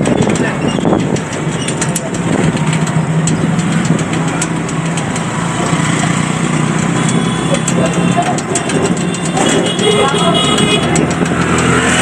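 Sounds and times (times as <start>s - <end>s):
auto-rickshaw engine running: 0.0s - 12.0s
small clicks: 0.1s - 12.0s.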